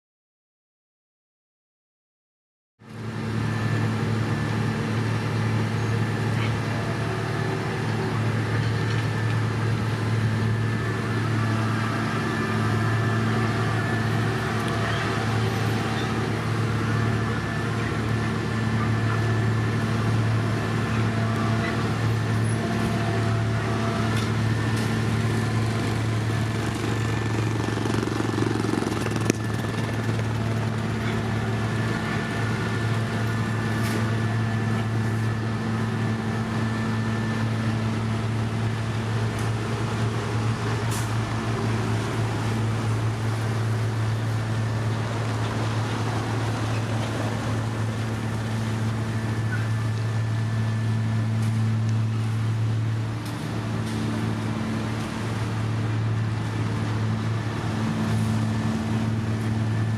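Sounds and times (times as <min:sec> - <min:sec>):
heavy diesel machinery running: 0:02.8 - 0:59.9
high whine: 0:02.9 - 0:56.3.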